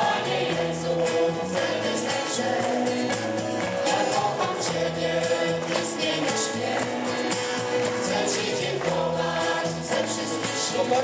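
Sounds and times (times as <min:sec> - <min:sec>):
leader and congregation singing: 0:00.0 - 0:11.0
percussion: 0:00.0 - 0:11.0.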